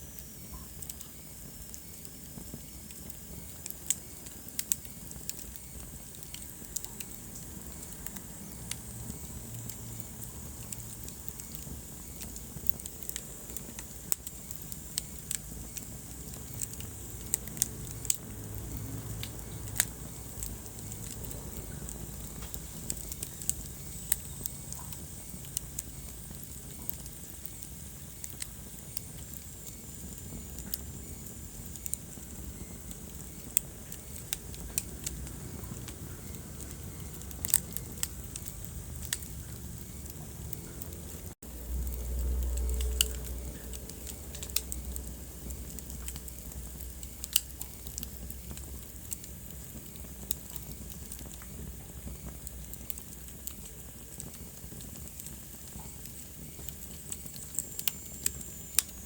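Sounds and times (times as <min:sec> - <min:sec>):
soft steady hiss: 0:00.0 - 0:59.0
wood fire crackling: 0:00.0 - 0:59.0
wood fire pops: 0:00.1 - 0:59.0.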